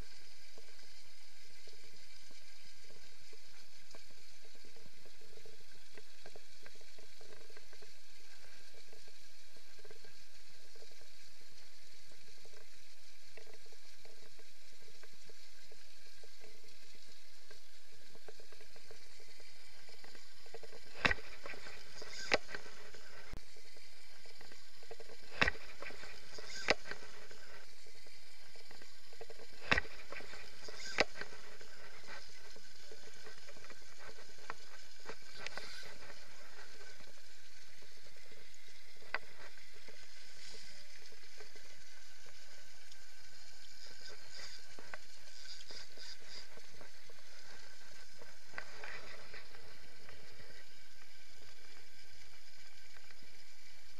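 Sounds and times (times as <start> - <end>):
water churning and fizzing: 0.0 - 53.9.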